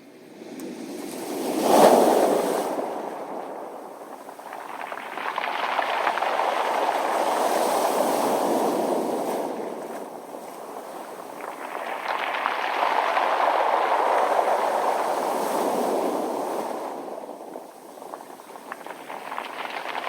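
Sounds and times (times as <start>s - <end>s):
wave washing up a beach: 0.7s - 20.0s.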